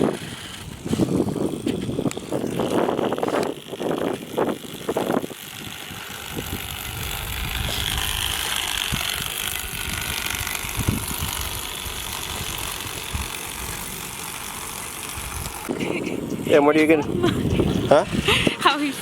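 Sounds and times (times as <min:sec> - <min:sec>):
electric motorbike motor whirring: 0:00.0 - 0:19.0.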